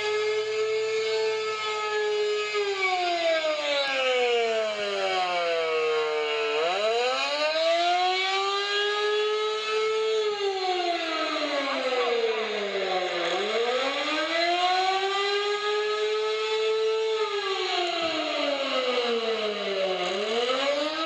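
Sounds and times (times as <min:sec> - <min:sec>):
alert siren wailing: 0:00.0 - 0:21.0.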